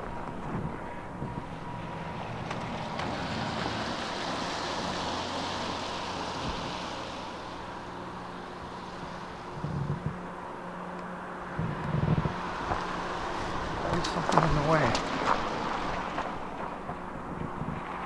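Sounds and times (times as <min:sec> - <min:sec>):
diesel locomotive engine hum: 0:00.0 - 0:18.0.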